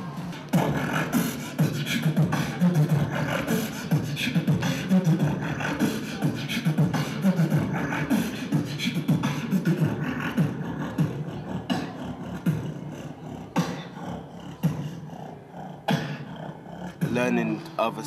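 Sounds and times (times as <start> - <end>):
hip-hop beat: 0.0 - 15.1, 16.9 - 18.0.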